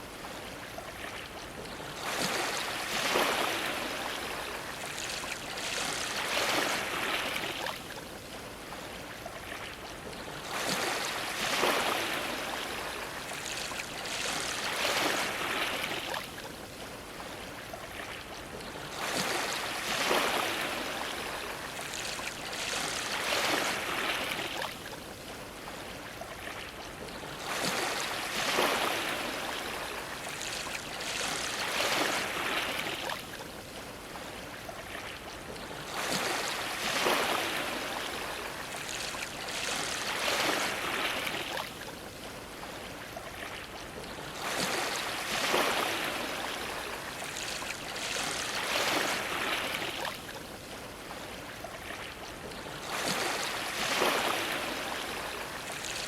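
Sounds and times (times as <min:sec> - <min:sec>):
waves washing against a dock: 0:00.0 - 0:56.0.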